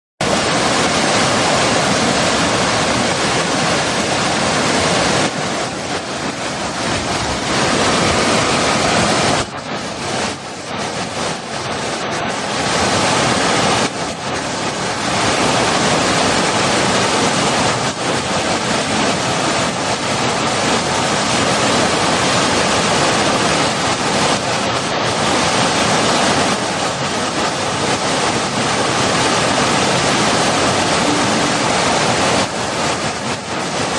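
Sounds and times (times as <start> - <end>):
fast-flowing water rushing: 0.2 - 33.9.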